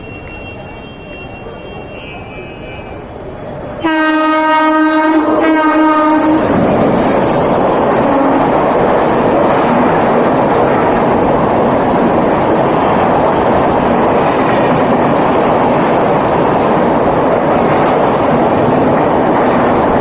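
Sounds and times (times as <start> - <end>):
train running on rails: 0.0 - 20.0.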